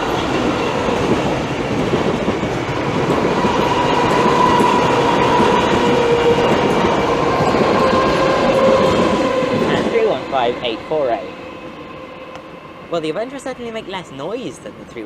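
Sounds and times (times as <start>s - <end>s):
wheels rumbling and clattering on rail: 0.0s - 15.0s.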